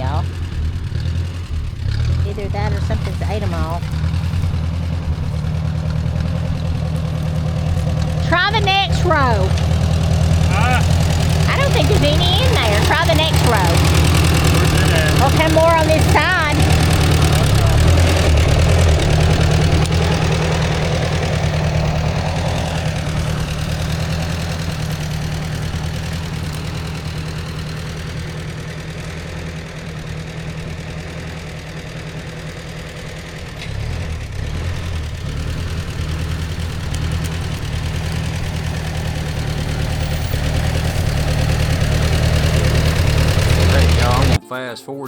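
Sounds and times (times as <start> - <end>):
tractor engine running: 0.0 - 44.5.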